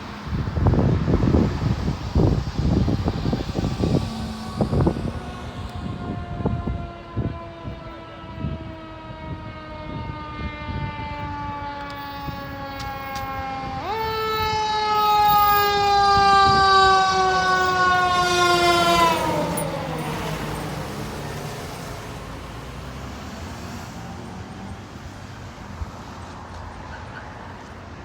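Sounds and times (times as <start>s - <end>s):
vehicle rumble: 0.0s - 9.5s, 11.8s - 28.0s.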